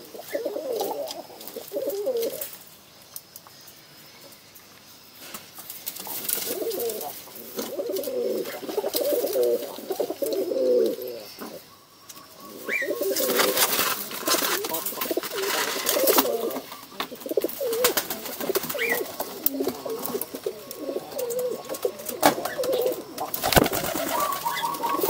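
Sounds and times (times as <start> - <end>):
pigeon cooing: 0.0 - 2.5, 6.1 - 25.0.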